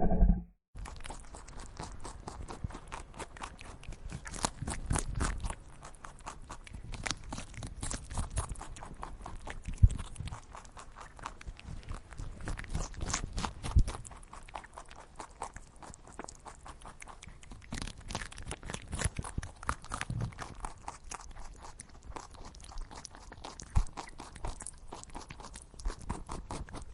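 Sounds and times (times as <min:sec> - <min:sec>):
animal chewing crunchy food: 0:00.8 - 0:26.9.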